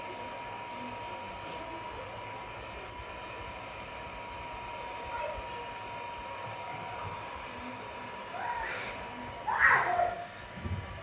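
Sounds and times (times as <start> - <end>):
hot-air blower running: 0.0 - 11.0.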